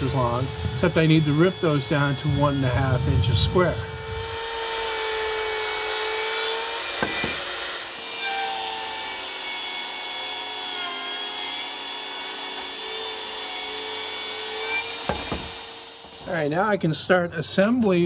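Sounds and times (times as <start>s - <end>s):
table saw cutting wood: 0.0s - 16.7s.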